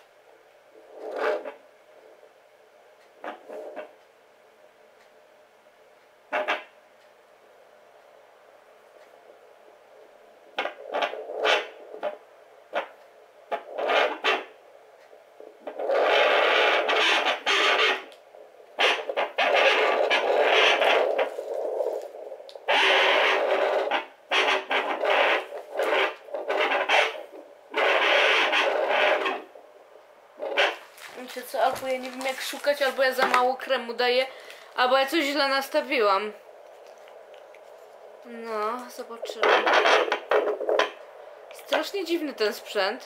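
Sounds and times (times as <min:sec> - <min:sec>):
doppler speaker scraping static: 0:00.7 - 0:02.4, 0:09.4 - 0:43.0.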